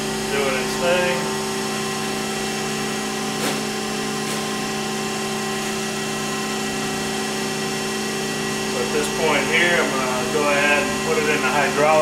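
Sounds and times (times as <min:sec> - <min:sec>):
surface grinder humming: 0:00.0 - 0:12.0.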